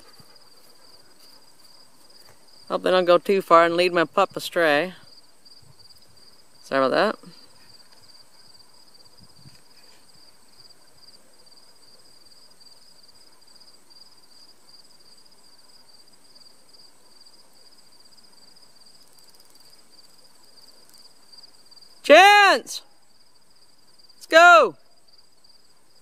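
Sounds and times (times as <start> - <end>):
insects trilling: 0.0 - 22.1, 22.8 - 26.0.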